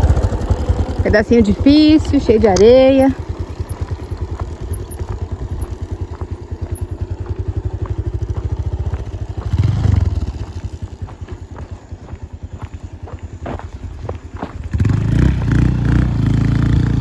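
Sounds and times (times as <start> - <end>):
motorcycle engine chugging: 0.0 - 17.0.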